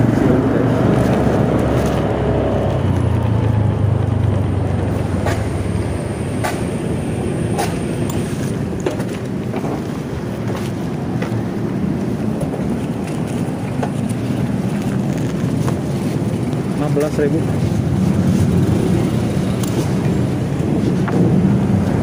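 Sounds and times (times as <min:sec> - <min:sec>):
motorcycle engine rumble: 0:00.0 - 0:22.0
road noise: 0:00.0 - 0:22.0.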